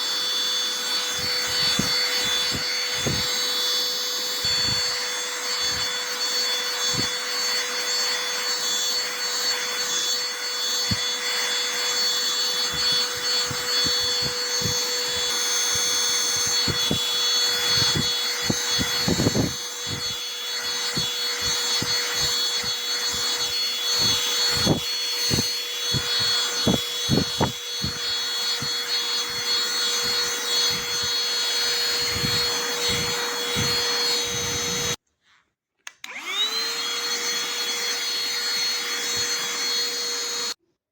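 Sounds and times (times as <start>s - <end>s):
handheld vacuum cleaner motor whine: 0.0s - 35.0s, 35.8s - 40.6s.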